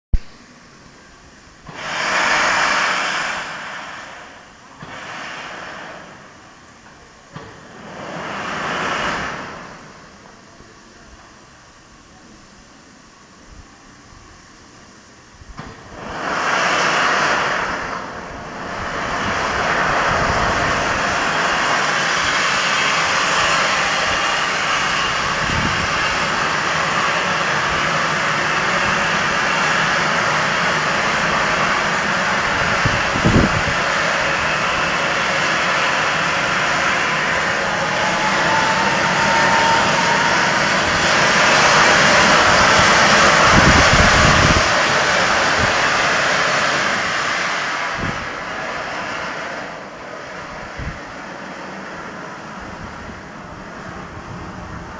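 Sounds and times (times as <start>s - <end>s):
steam hissing loudly: 0.4s - 54.9s.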